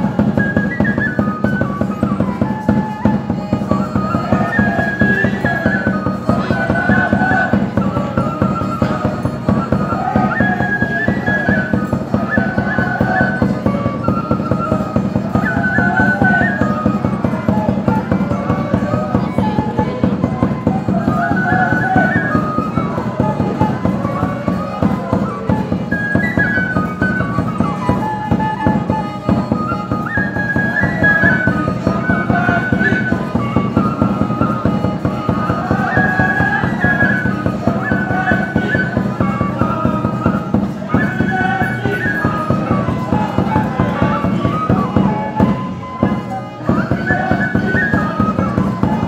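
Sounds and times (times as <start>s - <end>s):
steady percussive beat: 0.0s - 49.0s
wooden flute melody: 0.0s - 49.0s.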